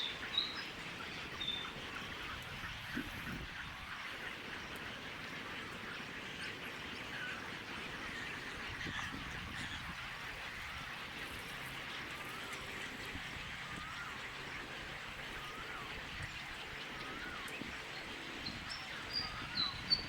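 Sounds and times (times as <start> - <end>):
faint bird calls: 0.0 - 20.0.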